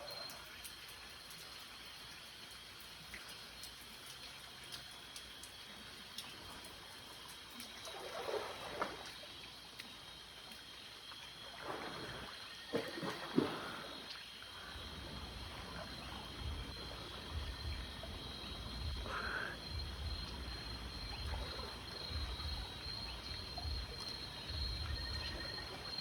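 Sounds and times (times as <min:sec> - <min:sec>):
night insects chirring: 0:00.0 - 0:26.0.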